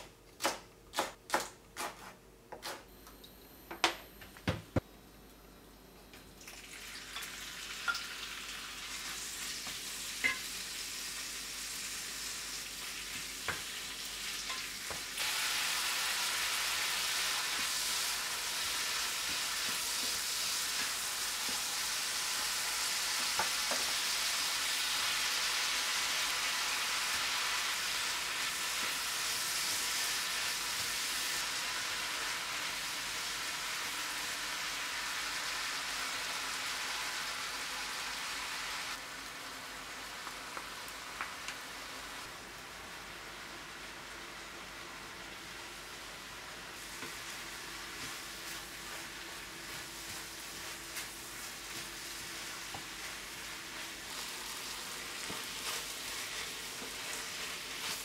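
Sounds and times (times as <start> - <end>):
squid sizzling in frying pan: 6.4 - 58.0.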